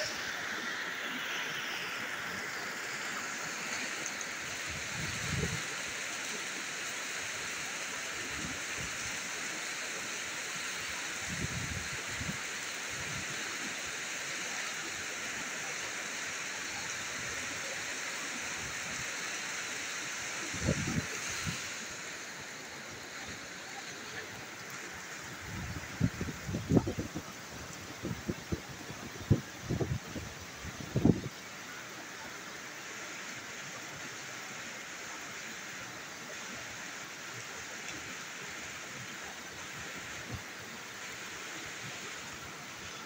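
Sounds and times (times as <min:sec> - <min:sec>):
heavy rain pouring off roof: 0:00.0 - 0:43.0.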